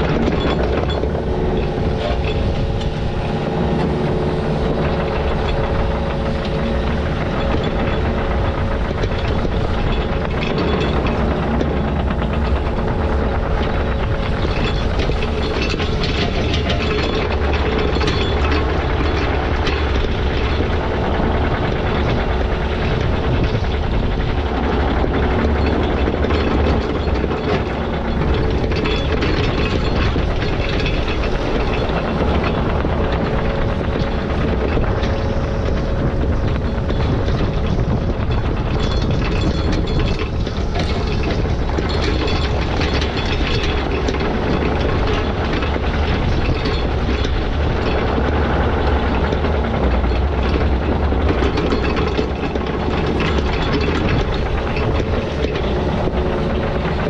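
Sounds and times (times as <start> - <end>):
diesel digging machine droning: 0.0 - 57.0
rattling and clanking: 0.0 - 57.0.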